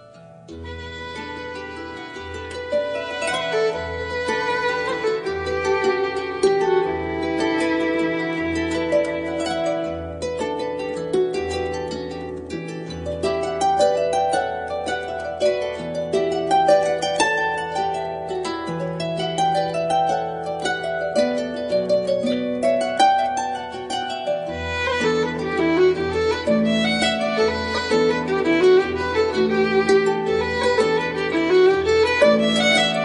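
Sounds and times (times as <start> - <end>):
harp plucked notes: 0.0 - 33.0.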